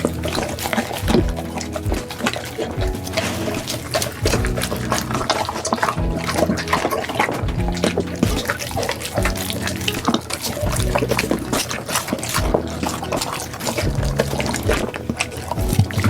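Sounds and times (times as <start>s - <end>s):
dogs chewing fish: 0.0s - 16.0s.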